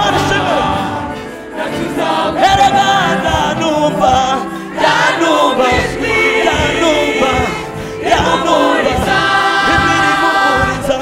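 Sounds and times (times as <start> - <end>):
gospel song group singing: 0.0 - 11.0.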